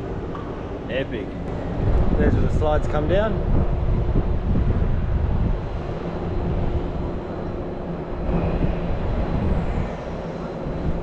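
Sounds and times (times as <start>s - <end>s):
faint steady hum: 0.0s - 11.0s
wind buffeting microphone: 0.0s - 11.0s.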